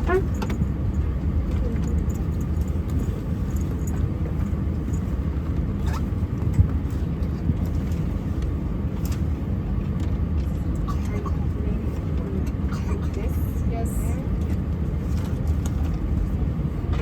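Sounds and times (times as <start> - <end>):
air-conditioning hum: 0.0 - 17.0
airplane cabin low rumble: 0.0 - 17.0.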